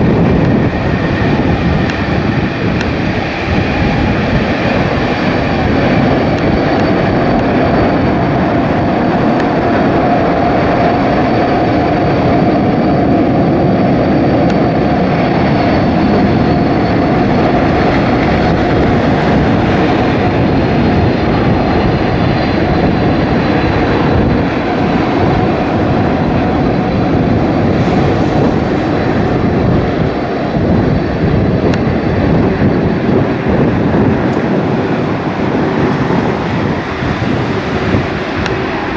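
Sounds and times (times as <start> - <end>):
falling engine whine: 0.0 - 38.9
jet engines roaring: 0.0 - 38.9
wind buffeting microphone: 0.0 - 38.9.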